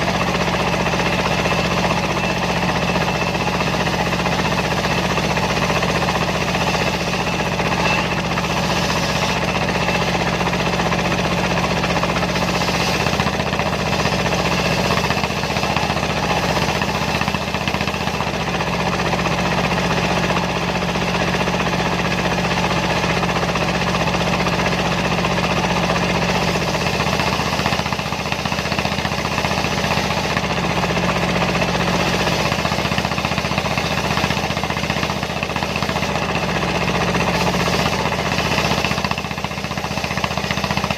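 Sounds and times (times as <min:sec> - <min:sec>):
circular saw: 0:00.0 - 0:40.9
diesel engine running: 0:00.0 - 0:40.9.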